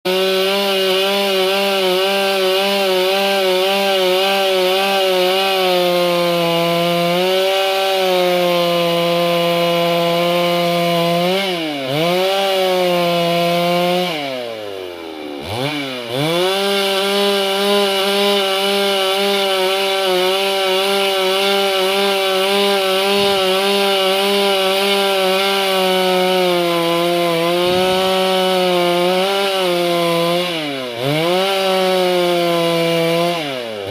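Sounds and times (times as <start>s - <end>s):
chainsaw cutting wood: 0.1s - 33.9s.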